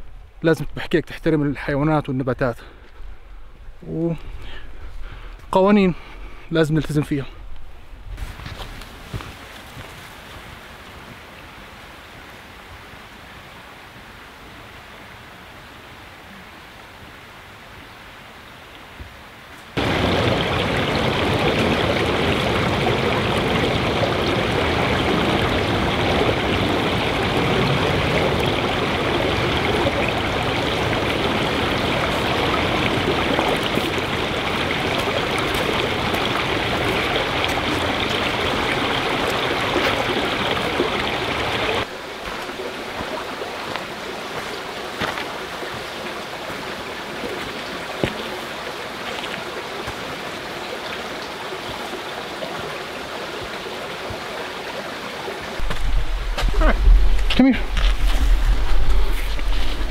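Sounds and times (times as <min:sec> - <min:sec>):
creek water over rocks: 0:00.0 - 0:59.9.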